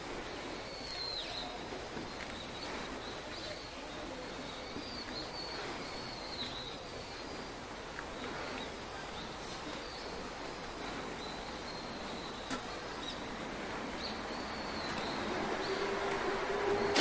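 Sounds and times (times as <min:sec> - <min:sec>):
steady background hiss: 0:00.0 - 0:17.0
faint high bird calls: 0:00.4 - 0:17.0.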